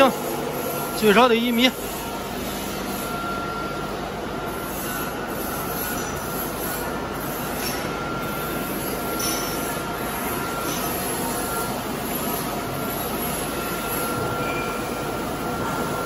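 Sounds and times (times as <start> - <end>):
thin steady whine: 0.0 - 16.0.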